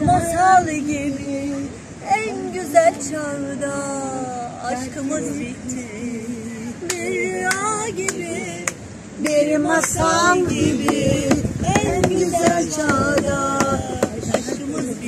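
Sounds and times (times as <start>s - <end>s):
group of people singing: 0.0s - 15.0s.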